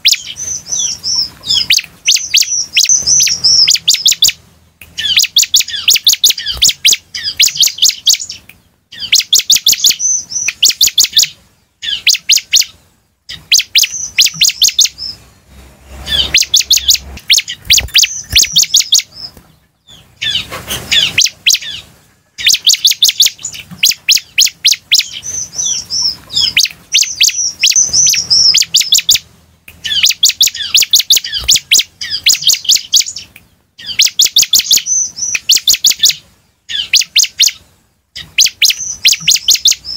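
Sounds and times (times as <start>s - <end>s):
bird singing fast sharp chirps: 0.0s - 37.6s, 38.2s - 39.9s.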